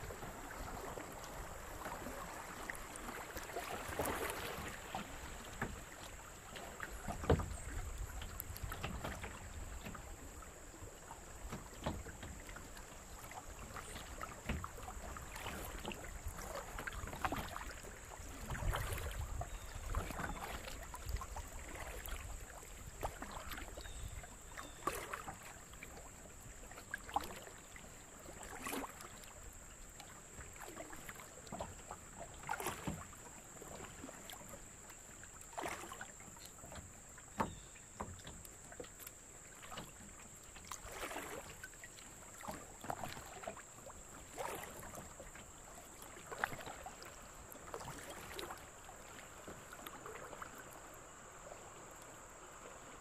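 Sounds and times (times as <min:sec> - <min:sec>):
paddle splashing in water: 0:00.0 - 0:53.0.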